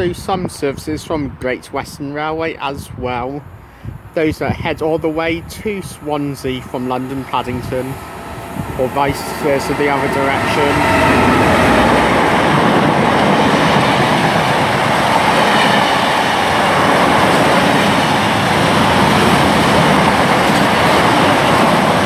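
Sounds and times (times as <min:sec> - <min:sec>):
freight train rumbling on rails: 0:03.8 - 0:22.0.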